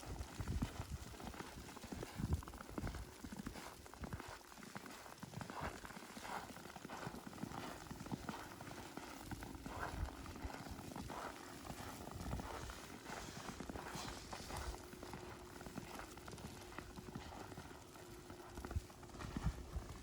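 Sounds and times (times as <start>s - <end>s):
footsteps crunching through snow: 0.2s - 20.0s.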